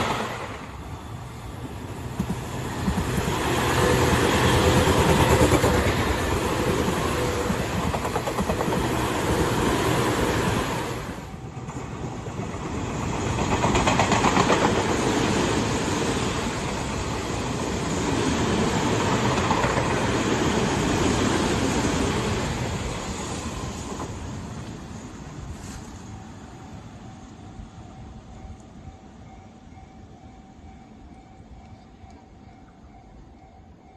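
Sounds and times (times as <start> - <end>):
train passing: 0.0 - 33.9.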